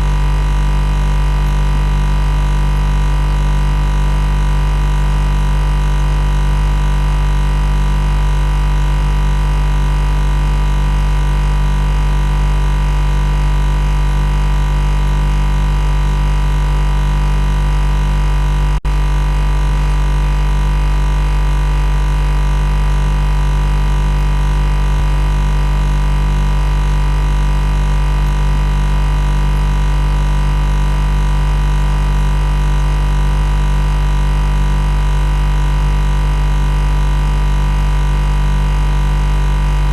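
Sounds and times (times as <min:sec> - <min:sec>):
electrical machine buzz: 0:00.0 - 0:39.9.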